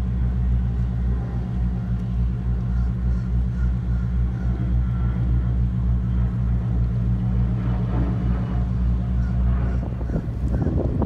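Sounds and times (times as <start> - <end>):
boat diesel engine drone: 0.0 - 11.0.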